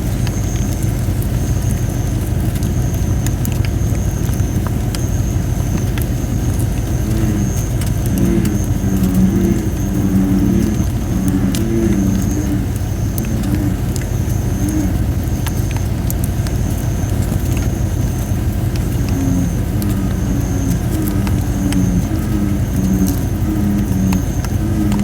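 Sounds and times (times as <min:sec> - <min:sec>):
bullfrogs croaking: 0:00.0 - 0:25.0
campfire crackling and popping: 0:00.0 - 0:25.0.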